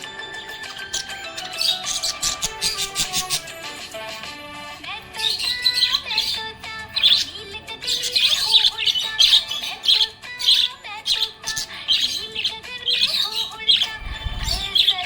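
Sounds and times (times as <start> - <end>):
budgerigar chirping and warbling: 0.0 - 4.3, 5.1 - 15.0.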